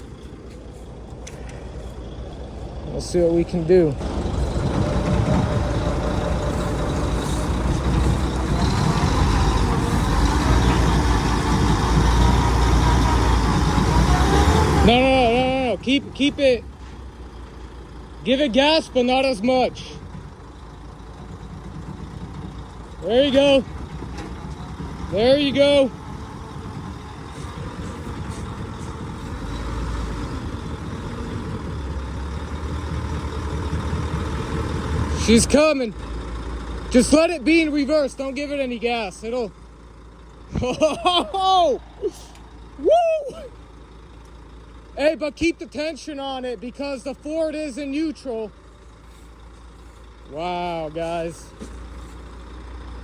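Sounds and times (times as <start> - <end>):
truck engine revving: 0.0 - 53.0.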